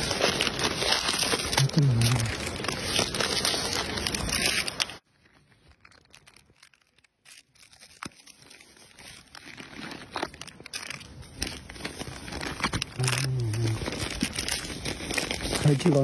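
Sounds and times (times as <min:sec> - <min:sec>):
plastic wrapper crinkling and tearing: 0:00.0 - 0:16.0.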